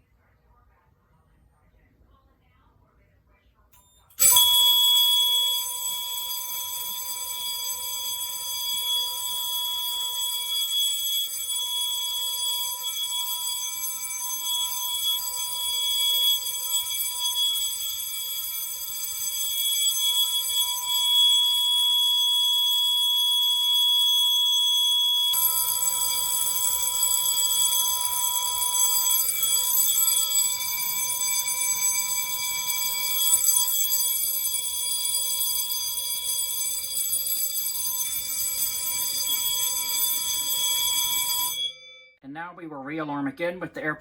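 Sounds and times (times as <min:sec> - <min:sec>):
fire alarm bell ringing: 0:03.8 - 0:42.2
second alarm signal: 0:04.1 - 0:42.2.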